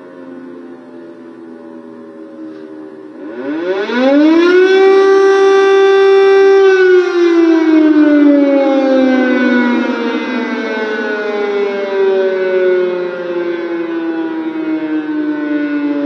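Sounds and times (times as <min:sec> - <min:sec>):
air-raid siren wailing: 0:00.0 - 0:16.0.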